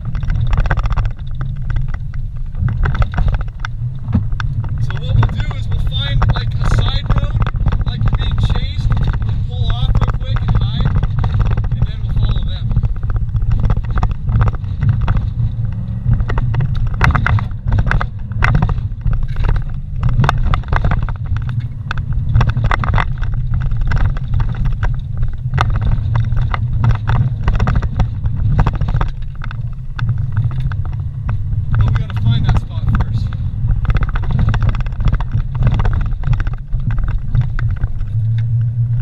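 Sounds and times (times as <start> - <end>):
engine and road rumble: 0.0 - 39.0
knocks and rattles over bumps: 0.0 - 39.0.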